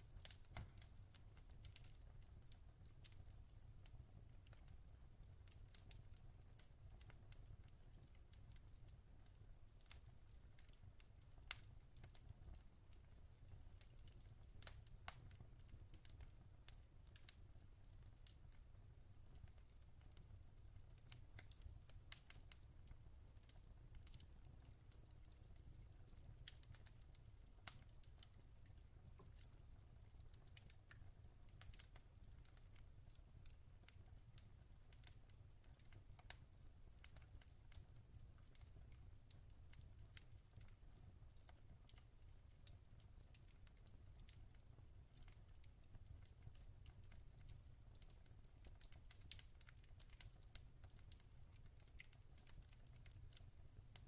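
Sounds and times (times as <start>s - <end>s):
log fire crackling and popping: 0.0s - 54.0s.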